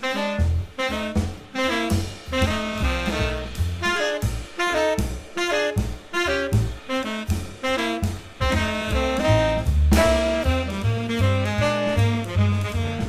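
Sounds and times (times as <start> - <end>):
jazzy instrumental music: 0.0 - 13.0.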